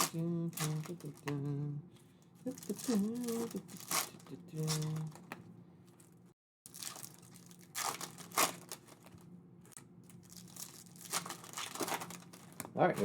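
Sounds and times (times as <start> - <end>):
foil wrappers tearing and crinkling: 0.0 - 1.5, 2.4 - 5.3, 5.9 - 13.0.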